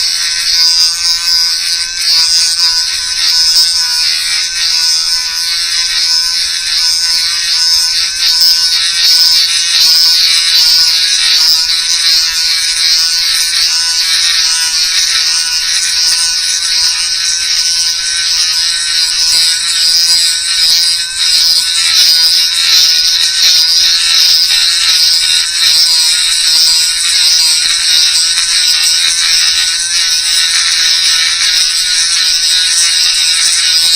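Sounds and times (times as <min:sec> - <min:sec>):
electric grinding tool whining: 0:00.0 - 0:33.9.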